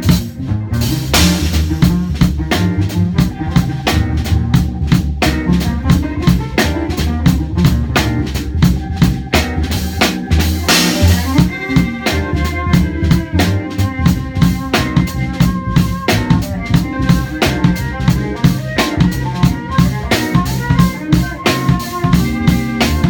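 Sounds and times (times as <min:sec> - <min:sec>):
drum kit beat: 0:00.0 - 0:23.0
electric bass line: 0:00.0 - 0:23.0
cello: 0:01.5 - 0:23.0.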